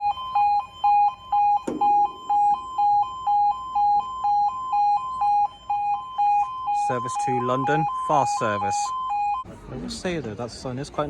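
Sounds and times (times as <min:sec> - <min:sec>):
two-tone crossing alarm: 0:00.0 - 0:09.5.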